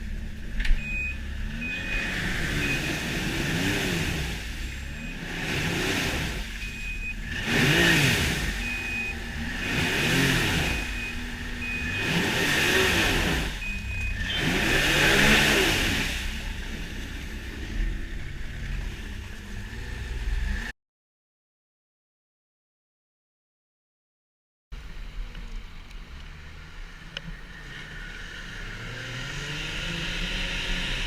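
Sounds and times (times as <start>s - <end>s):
snowmobile engine revving: 0.0s - 20.7s, 26.8s - 31.0s.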